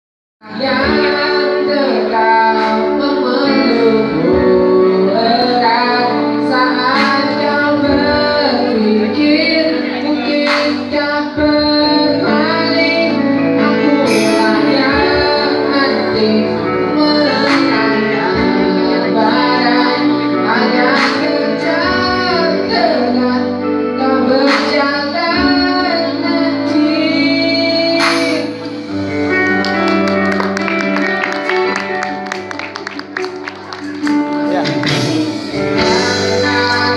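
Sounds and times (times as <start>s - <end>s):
man singing pop song: 0.4s - 29.0s, 34.1s - 36.9s
electric guitar strumming: 0.4s - 36.9s
keyboard: 0.4s - 36.9s.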